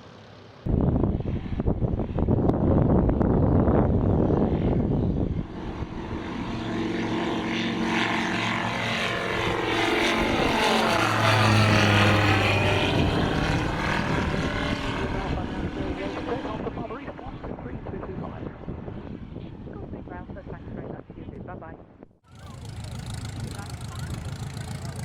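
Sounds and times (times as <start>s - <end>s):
propeller aircraft engine: 0.0s - 25.0s.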